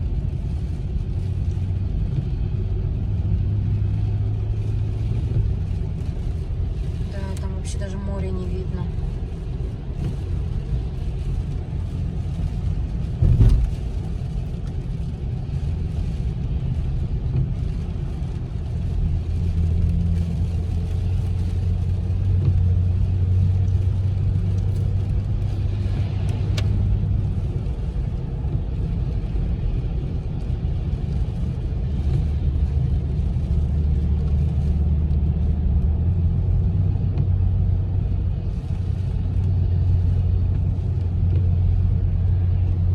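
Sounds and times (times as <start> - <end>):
car engine hum and tyre rumble: 0.0 - 42.9.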